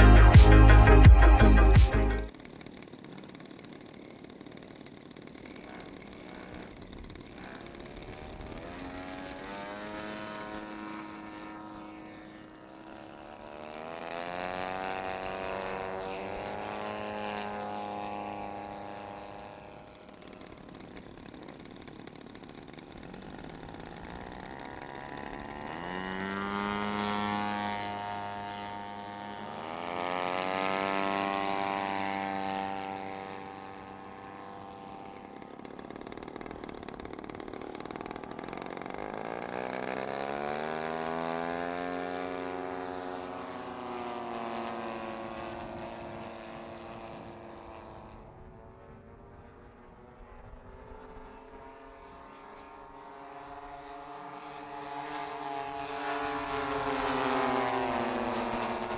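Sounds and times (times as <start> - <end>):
model plane propeller engines: 0.0 - 58.9.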